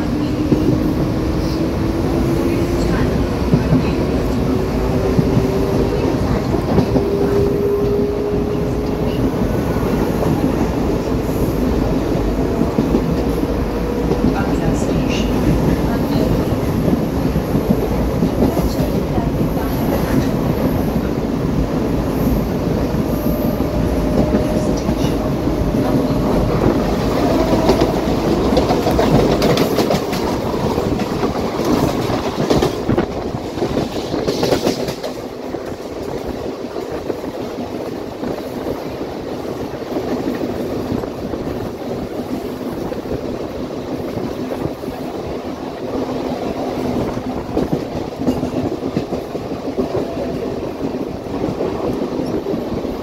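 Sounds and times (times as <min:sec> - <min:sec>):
passing train rushing by: 0:00.0 - 0:53.0
train rumbling on board: 0:00.0 - 0:53.0.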